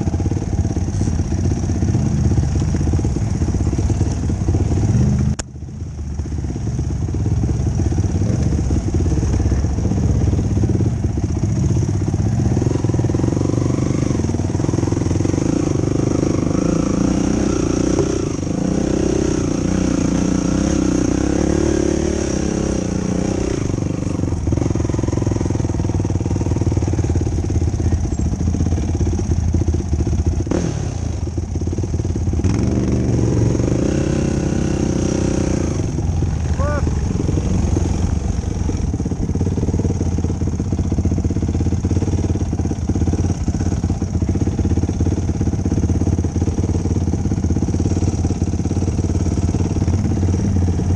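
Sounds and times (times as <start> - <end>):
quad bike engine revving: 0.0 - 50.9.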